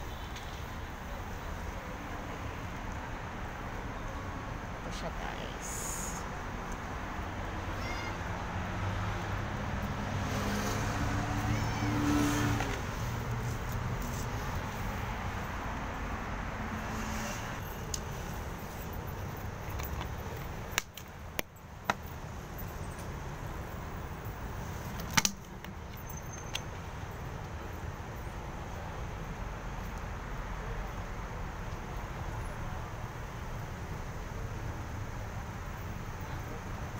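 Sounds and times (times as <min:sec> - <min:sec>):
street noise: 0:00.0 - 0:36.9.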